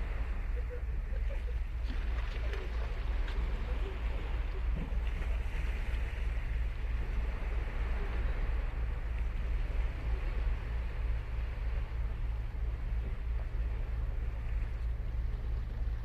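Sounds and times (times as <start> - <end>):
ocean surf on sandy beach: 0.0 - 16.0.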